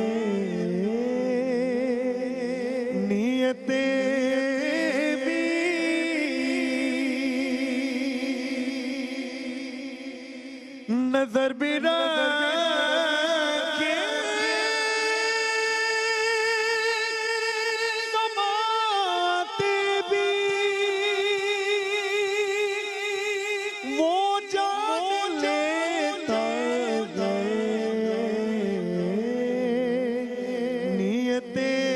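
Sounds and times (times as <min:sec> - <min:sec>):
man singing devotional song: 0:00.0 - 0:31.9.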